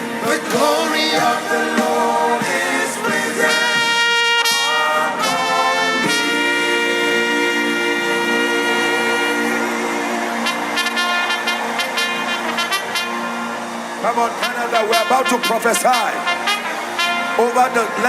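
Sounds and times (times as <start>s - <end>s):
held brass notes: 0.0s - 18.0s.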